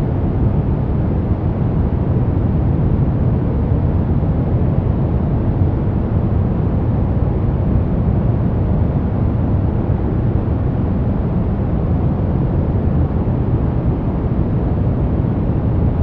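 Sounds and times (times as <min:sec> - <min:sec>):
deep brown noise rumble: 0:00.0 - 0:16.0.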